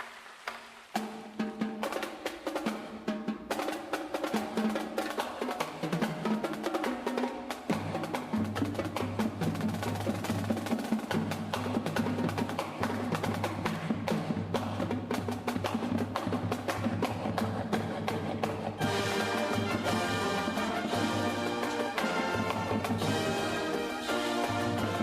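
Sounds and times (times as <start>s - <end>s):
marching band drums: 0.9s - 25.0s.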